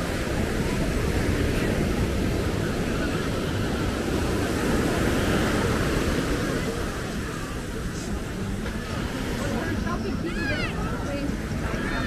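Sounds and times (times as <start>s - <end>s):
voices: 0.0s - 12.0s.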